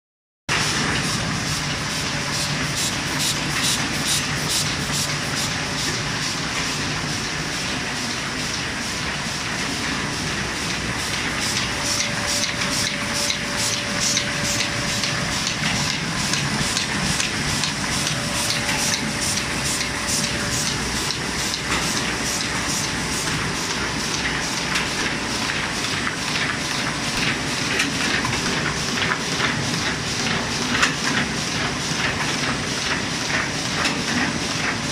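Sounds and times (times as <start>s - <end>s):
laminator mechanical clatter: 0.5s - 34.9s.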